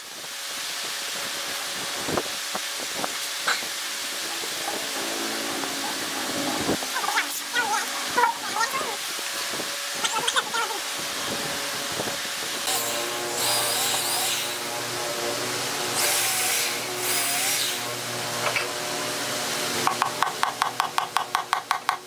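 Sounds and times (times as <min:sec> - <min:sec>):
power tool cutting wood: 0:03.0 - 0:21.8.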